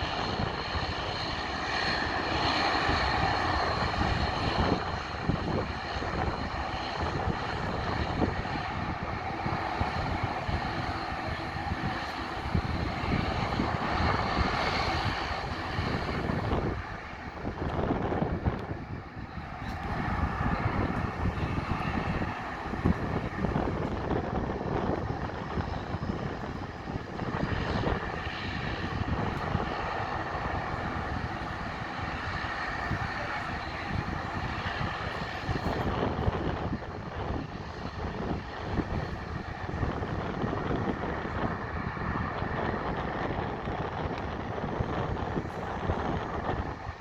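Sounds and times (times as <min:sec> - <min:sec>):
turboprop engines droning: 0:00.0 - 0:47.0.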